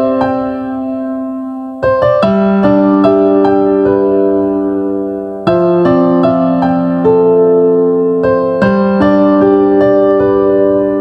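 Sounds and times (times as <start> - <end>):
electric piano chords: 0.0 - 11.0.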